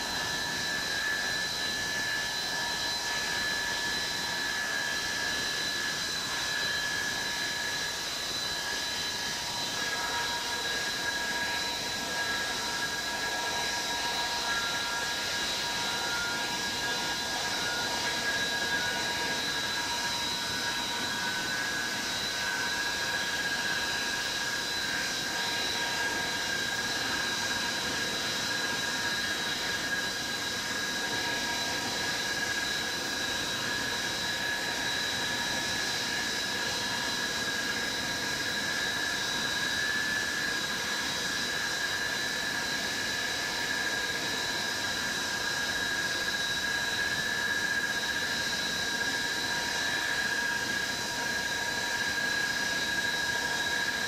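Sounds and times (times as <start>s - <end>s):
jet engines running with whine: 0.0s - 54.0s.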